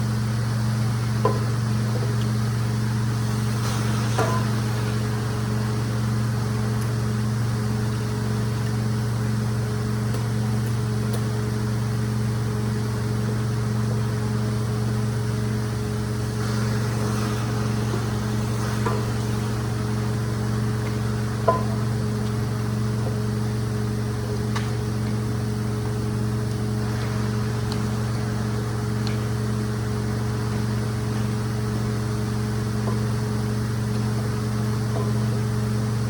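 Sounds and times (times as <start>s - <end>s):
cleaning machine motor humming: 0.0s - 36.0s.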